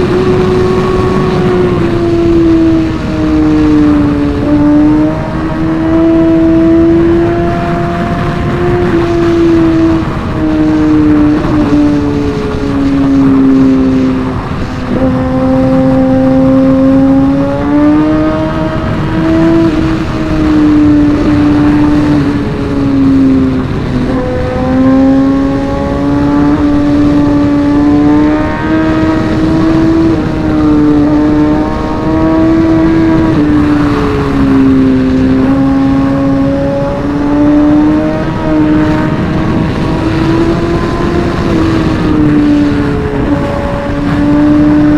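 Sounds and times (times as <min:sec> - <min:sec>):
motorcycle engine: 0:00.0 - 0:44.9
wind and road rush: 0:00.0 - 0:44.9.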